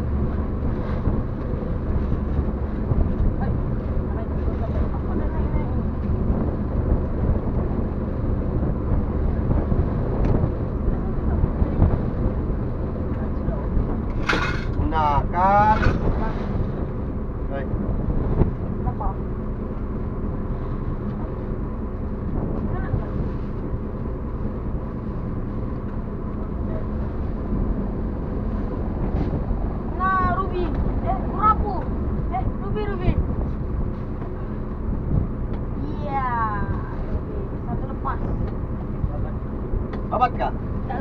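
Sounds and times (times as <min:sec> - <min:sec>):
low rumble of boat: 0:00.0 - 0:41.0
wave wash: 0:00.0 - 0:41.0
wind buffeting microphone: 0:00.0 - 0:41.0.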